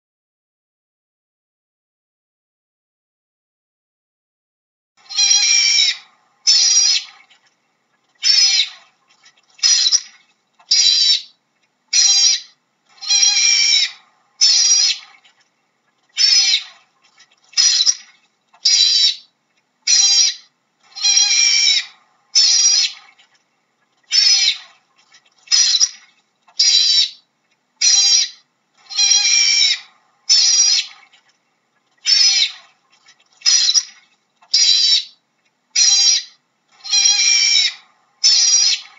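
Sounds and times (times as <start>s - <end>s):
otter calling: 5.0s - 38.9s.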